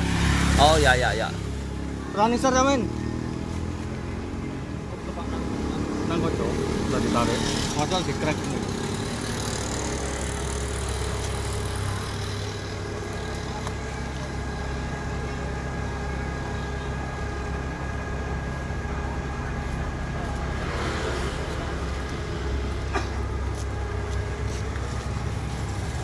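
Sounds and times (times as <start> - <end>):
engine droning: 0.0 - 26.0.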